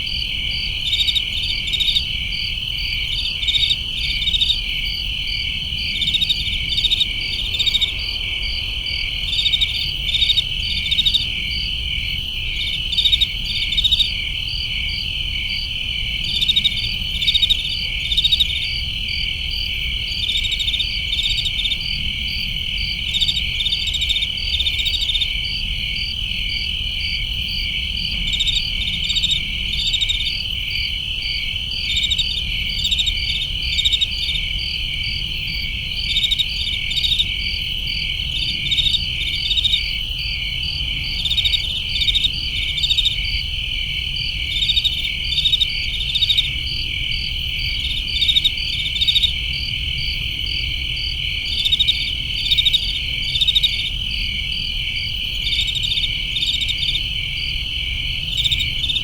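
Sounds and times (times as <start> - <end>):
crickets trilling: 0.0 - 59.0
insects chirping in pulses: 0.0 - 59.0.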